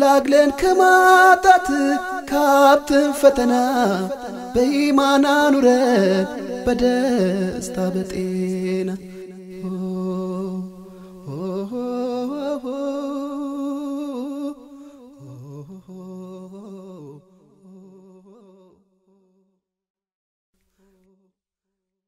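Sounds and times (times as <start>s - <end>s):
male voices singing a cappella: 0.0s - 18.5s.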